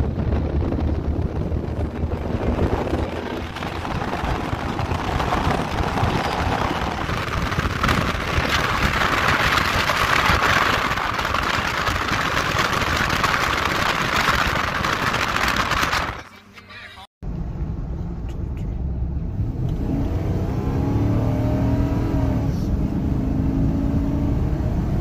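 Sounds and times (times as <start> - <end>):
road and wind noise inside truck: 0.0 - 25.0.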